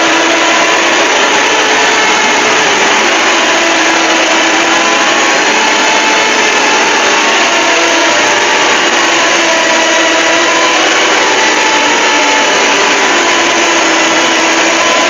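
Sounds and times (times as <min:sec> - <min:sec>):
loud steady hiss: 0:00.0 - 0:15.0.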